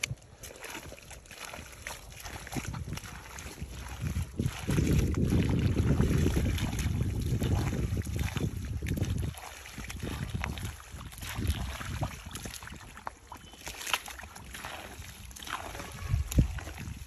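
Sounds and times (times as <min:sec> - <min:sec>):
hands squelching through mud: 0:00.0 - 0:17.0
wet splashes and slaps: 0:00.0 - 0:17.0
wind rumble on microphone: 0:01.0 - 0:13.3, 0:14.2 - 0:17.0.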